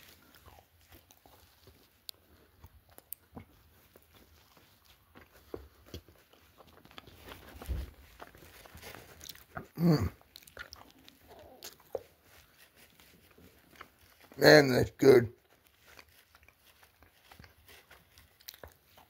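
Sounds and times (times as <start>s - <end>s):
person chewing pizza: 0.0s - 19.0s.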